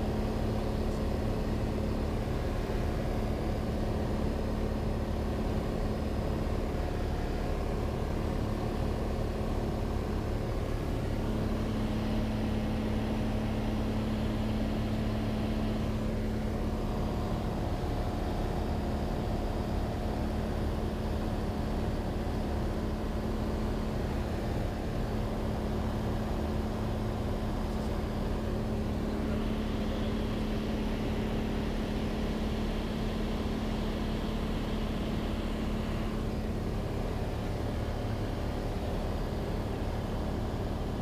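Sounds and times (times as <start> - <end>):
light aircraft engine drone: 0.0 - 41.0.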